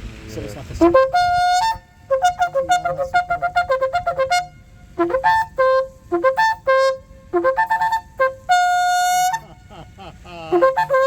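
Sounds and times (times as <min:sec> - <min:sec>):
shofar blasts: 0:00.8 - 0:11.0.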